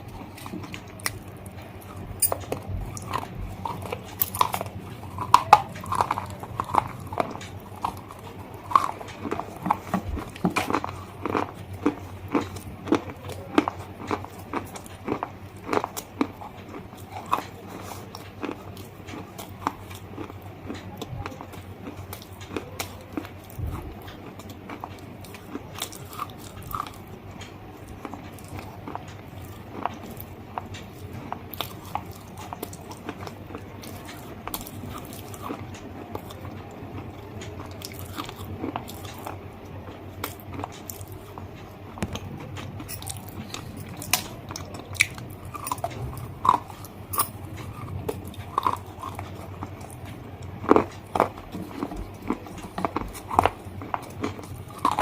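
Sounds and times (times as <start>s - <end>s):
person crunching and chewing: 0.0s - 55.0s.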